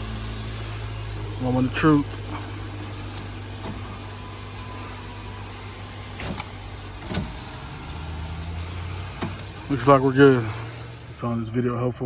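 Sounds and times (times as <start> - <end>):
power window motor running: 0.0 - 11.2.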